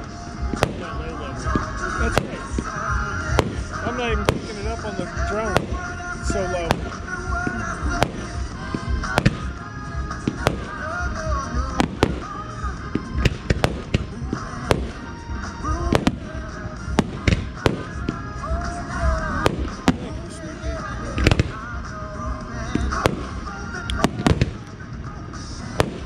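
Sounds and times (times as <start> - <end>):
accompanying music: 0.0 - 26.0
fireworks bangs: 0.0 - 26.0.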